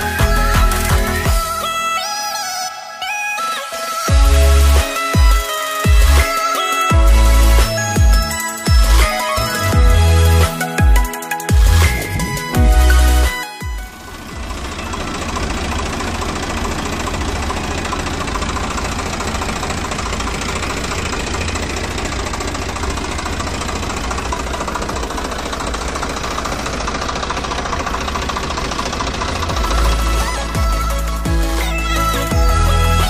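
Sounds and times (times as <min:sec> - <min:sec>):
diesel engine running: 0:00.0 - 0:02.3, 0:04.1 - 0:33.0.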